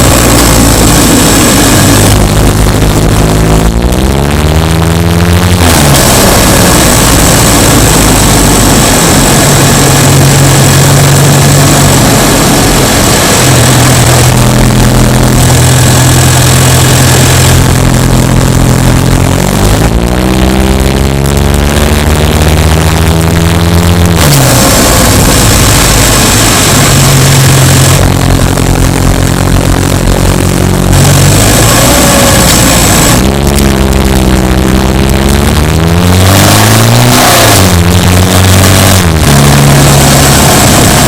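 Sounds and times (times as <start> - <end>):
car engine revving: 0.0 - 41.0
road noise: 0.0 - 41.0.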